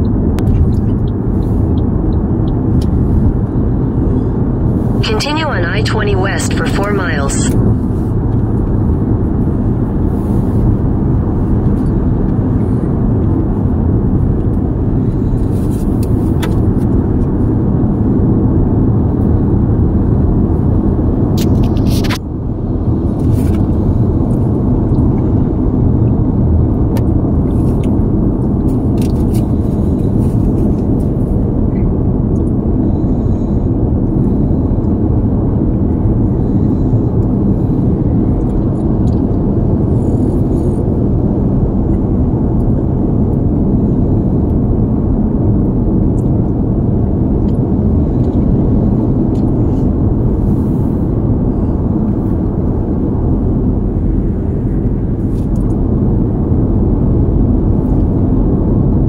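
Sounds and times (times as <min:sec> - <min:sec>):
road and tyre rumble in car: 0:00.0 - 0:59.0.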